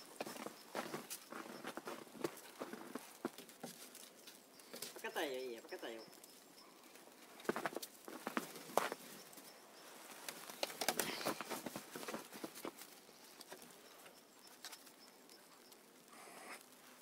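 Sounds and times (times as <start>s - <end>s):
paws pattering on snowy wood: 0.0s - 17.0s
soft rustle: 0.0s - 17.0s.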